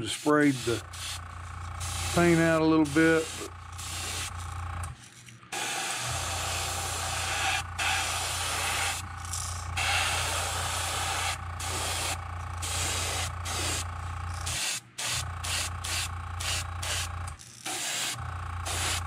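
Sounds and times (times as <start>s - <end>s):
airbrush spraying paint: 0.0s - 4.7s, 5.5s - 19.0s
steady low hum: 0.0s - 19.0s.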